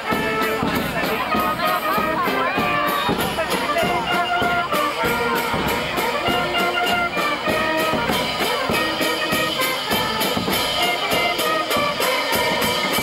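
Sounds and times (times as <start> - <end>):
held melody notes: 0.0 - 13.0
quick steady drum beat: 0.0 - 13.0.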